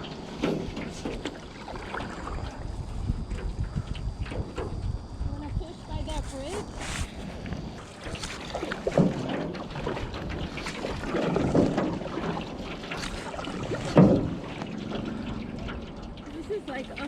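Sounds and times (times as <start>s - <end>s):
paddle knocking against hull: 0.0s - 5.1s, 6.1s - 16.4s
paddle splashes: 0.0s - 17.0s
wind buffeting microphone: 0.0s - 17.0s.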